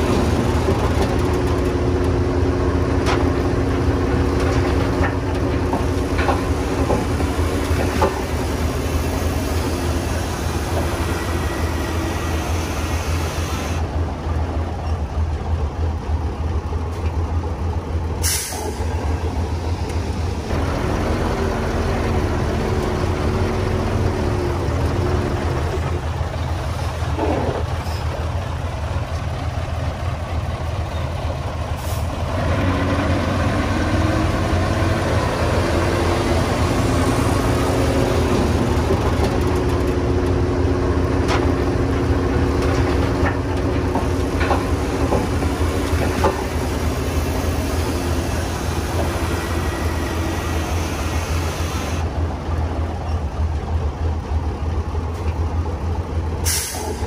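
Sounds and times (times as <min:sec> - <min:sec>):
diesel machinery engine running: 0:00.0 - 0:57.0.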